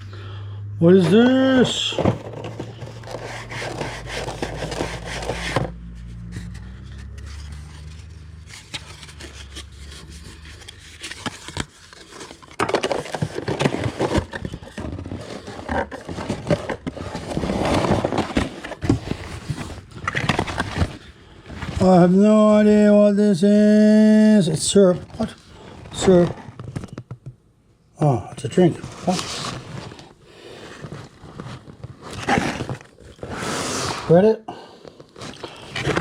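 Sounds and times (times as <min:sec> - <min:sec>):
packaging scraping and rustling: 0:00.9 - 0:22.1, 0:24.7 - 0:27.3, 0:28.5 - 0:36.0.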